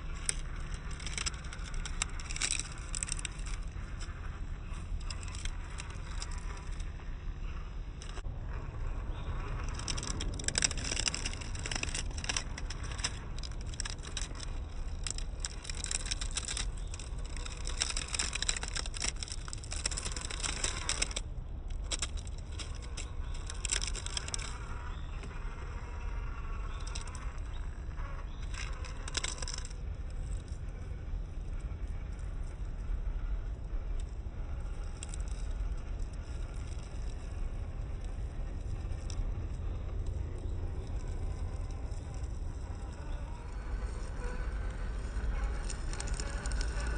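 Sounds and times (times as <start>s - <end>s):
steady low noise: 0.0s - 46.9s
toy car motor and gears whirring: 0.0s - 46.9s.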